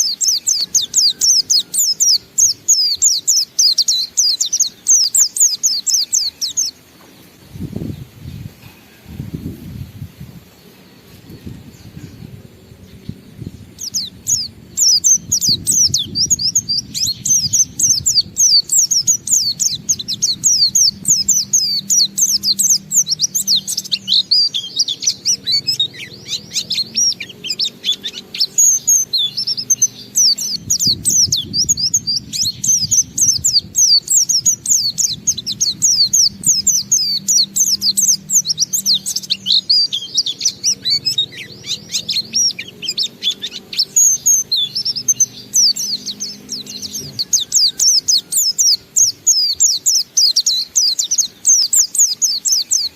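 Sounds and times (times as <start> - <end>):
bird rapid high chirping song: 0.0 - 8.7, 9.4 - 52.9.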